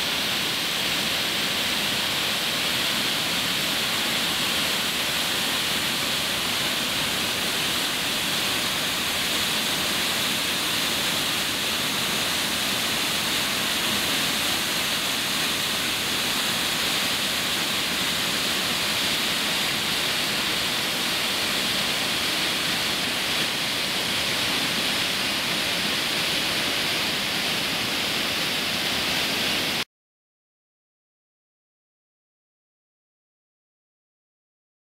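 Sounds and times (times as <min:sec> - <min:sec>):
waterfall rushing: 0:00.0 - 0:29.8.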